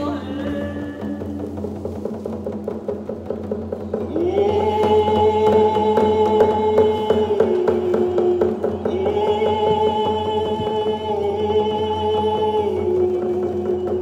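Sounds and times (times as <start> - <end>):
group singing long notes: 0.0 - 2.0, 4.0 - 14.0
frame drums beating: 0.0 - 14.0.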